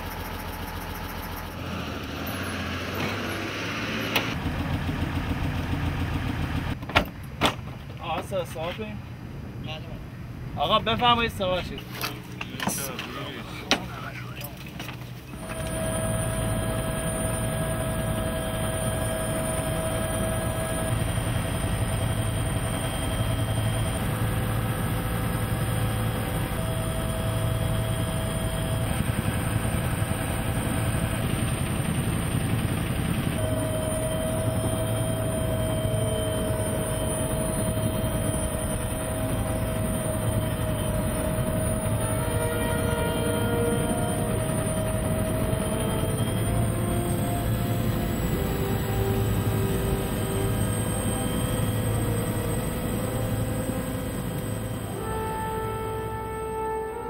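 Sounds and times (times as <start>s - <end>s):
helicopter cabin drone: 0.0s - 6.8s, 10.2s - 57.0s
helicopter engine whine: 0.0s - 6.8s, 10.6s - 57.0s.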